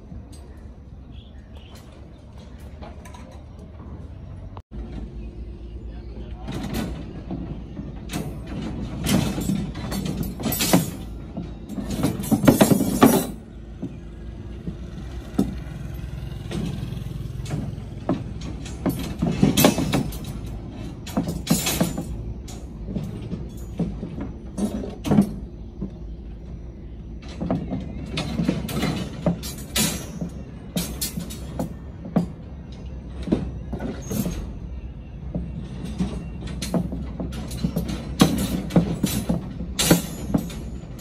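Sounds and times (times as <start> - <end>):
steel bars clanking and scraping: 0.0 - 4.0, 6.2 - 41.0.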